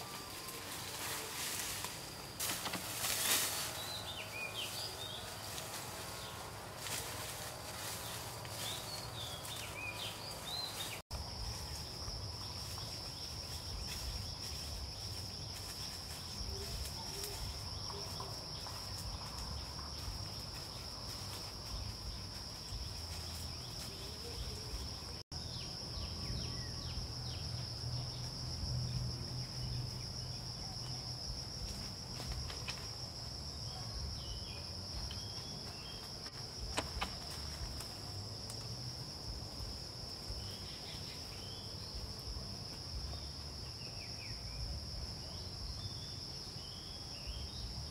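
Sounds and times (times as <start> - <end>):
insects droning: 0.0 - 47.9.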